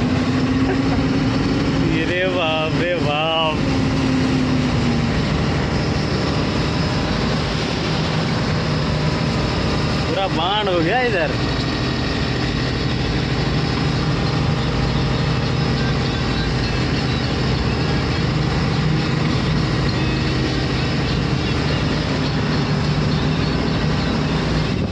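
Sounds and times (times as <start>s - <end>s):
vehicle engine humming: 0.0s - 24.9s.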